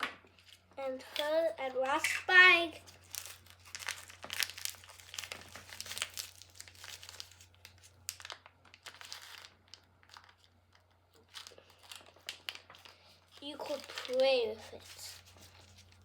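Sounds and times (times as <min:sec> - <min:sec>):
plastic packaging crinkling and tearing: 0:00.3 - 0:16.0.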